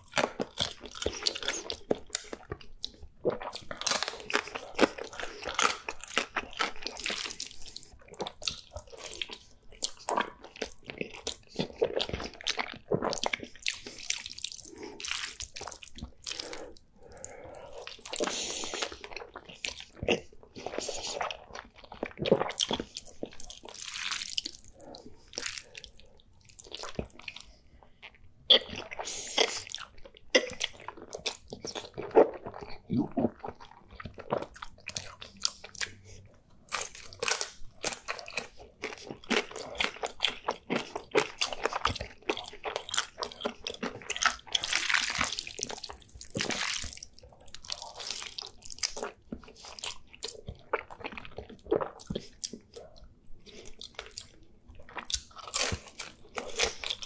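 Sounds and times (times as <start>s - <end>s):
chewing and slurping noodles: 0.0s - 57.0s.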